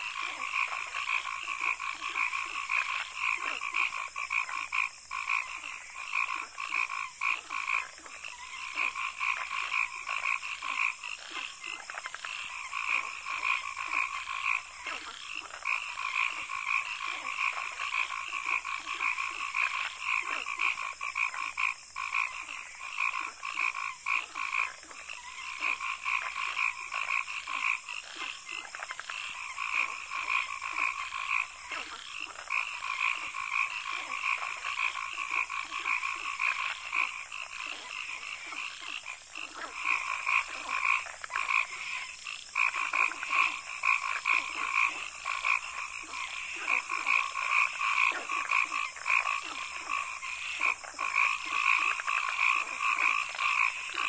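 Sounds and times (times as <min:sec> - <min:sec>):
frogs calling: 0:00.0 - 0:54.0.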